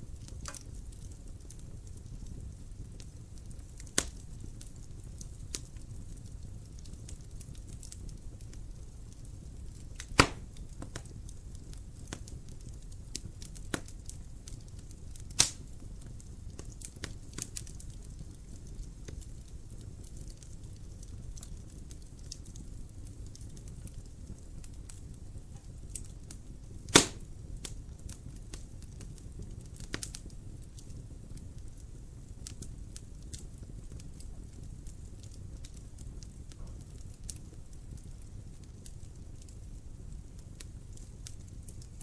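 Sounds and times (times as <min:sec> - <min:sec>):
loud sharp pops from fire: 0:00.0 - 0:42.0
wood fire crackling: 0:00.0 - 0:42.0.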